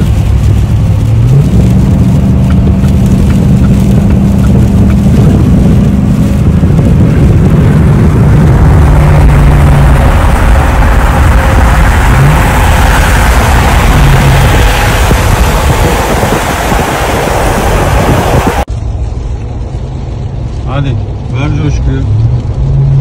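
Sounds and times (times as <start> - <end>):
rain: 0.0 - 23.0
road noise: 0.0 - 23.0
vehicle engine hum: 0.0 - 23.0.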